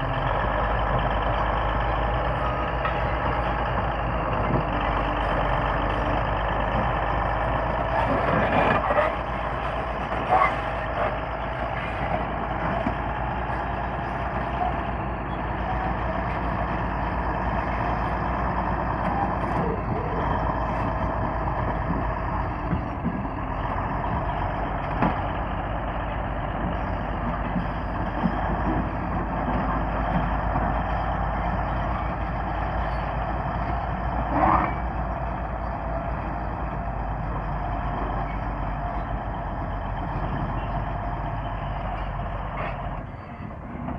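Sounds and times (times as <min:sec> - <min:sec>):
bulldozer diesel engine under load: 0:00.0 - 0:43.9.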